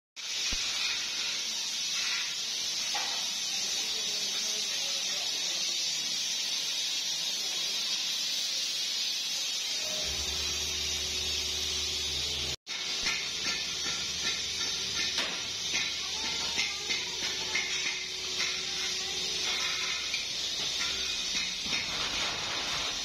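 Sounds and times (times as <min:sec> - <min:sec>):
metalworking hiss on steel pipe: 0:00.2 - 0:23.0.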